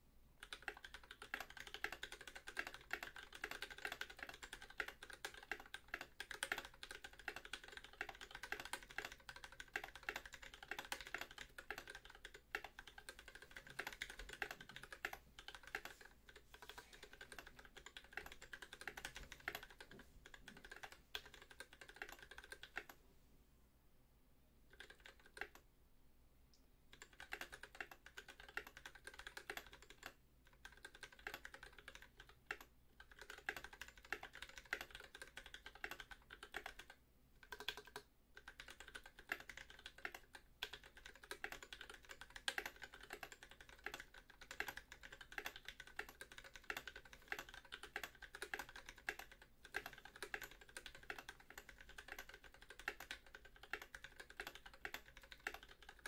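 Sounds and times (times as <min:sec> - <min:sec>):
mechanical keyboard typing: 0:00.4 - 0:23.0, 0:24.7 - 0:25.6, 0:26.9 - 0:56.0.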